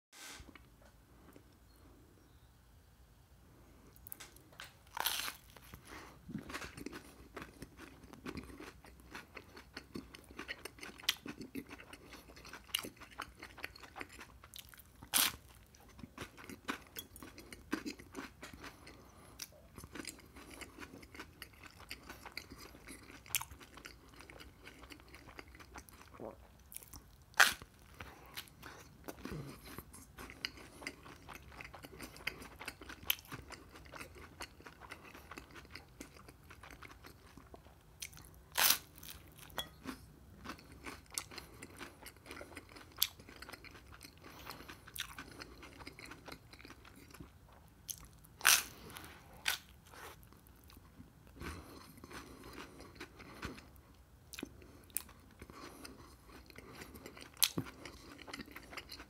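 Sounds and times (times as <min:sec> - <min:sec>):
chewing and crunching bread: 0:03.8 - 0:59.0.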